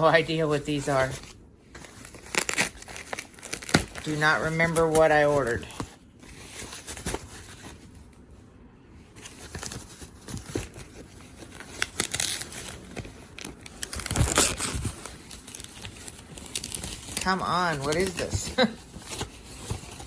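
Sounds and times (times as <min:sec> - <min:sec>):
packaging crinkling and tearing: 0:00.0 - 0:08.2, 0:09.1 - 0:20.0.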